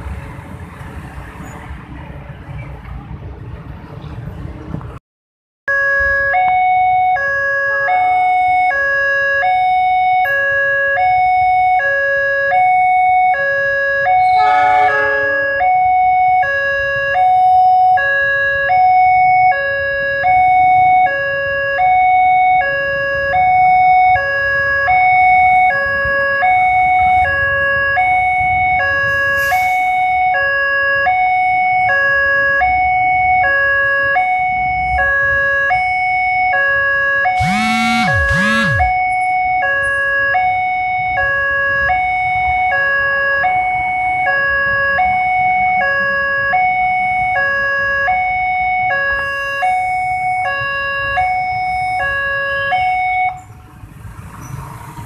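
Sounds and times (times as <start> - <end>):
level crossing two-tone alarm: 5.7 - 29.2, 29.8 - 53.4.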